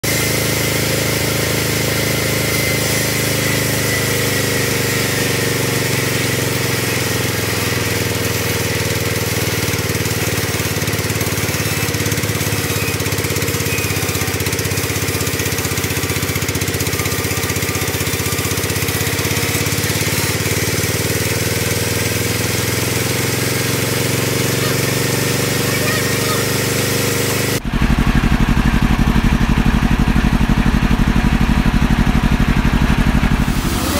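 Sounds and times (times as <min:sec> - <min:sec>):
band saw cutting log: 0:00.0 - 0:33.9
drive engine running: 0:00.0 - 0:33.9.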